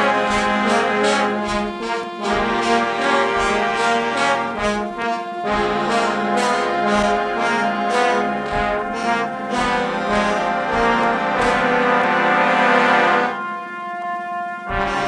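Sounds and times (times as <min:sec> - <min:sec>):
drum hits: 0:00.0 - 0:12.1, 0:14.7 - 0:15.0
brass fanfare: 0:00.0 - 0:15.0.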